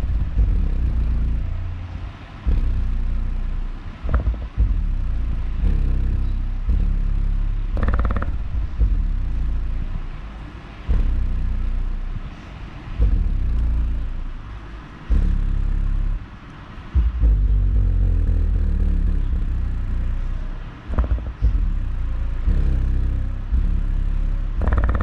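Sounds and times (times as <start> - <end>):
bass-heavy music on subwoofer: 0.0 - 25.0.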